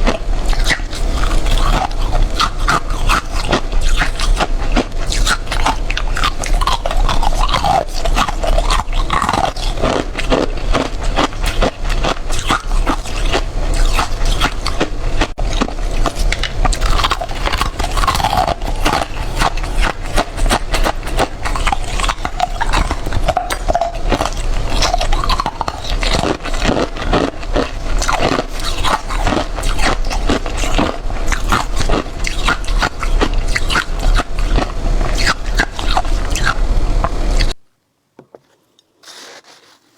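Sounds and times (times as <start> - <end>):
crunching and chewing ice: 0.0 - 37.6.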